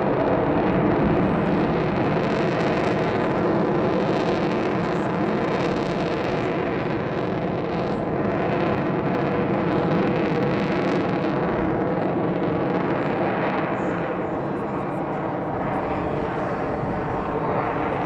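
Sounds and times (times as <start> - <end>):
jet aircraft flying over: 0.0 - 18.0.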